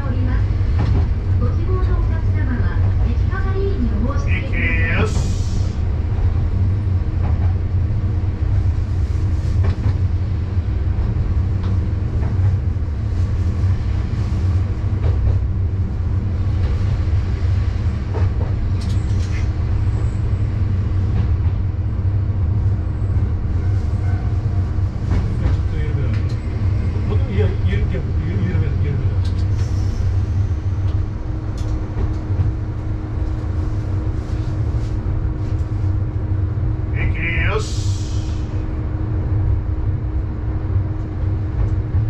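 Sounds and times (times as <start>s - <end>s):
low engine drone: 0.0s - 42.0s.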